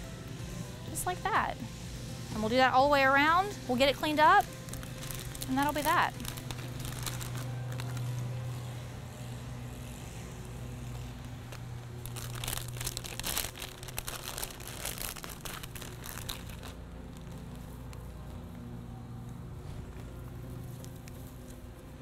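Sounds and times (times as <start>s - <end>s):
steady low hum: 0.0s - 22.0s
dry moss crackling and rustling: 3.3s - 22.0s.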